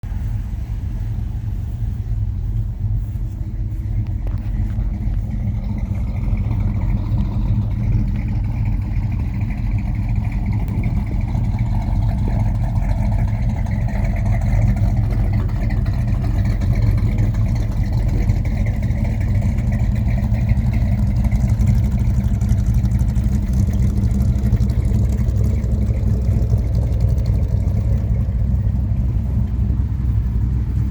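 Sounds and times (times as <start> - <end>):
car engine with deep exhaust: 0.0 - 30.9.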